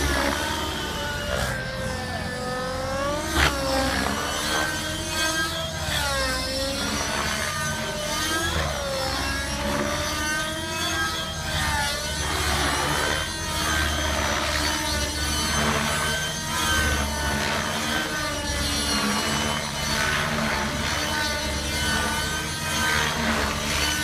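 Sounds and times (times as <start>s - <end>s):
model helicopter rotor whine: 0.0s - 24.0s.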